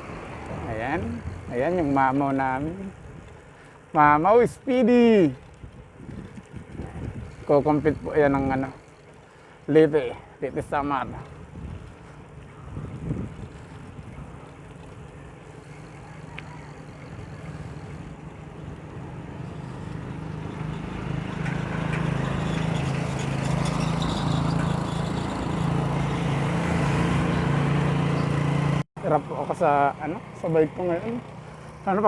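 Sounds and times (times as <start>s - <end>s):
road and wind noise: 0.0s - 32.0s
vehicle engine humming: 0.0s - 32.0s.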